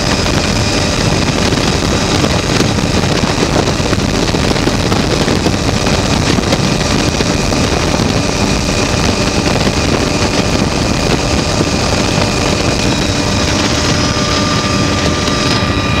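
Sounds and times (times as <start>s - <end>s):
faint steady whine: 0.0s - 16.0s
helicopter rotor and engine: 0.0s - 16.0s
wind buffeting microphone: 0.0s - 16.0s.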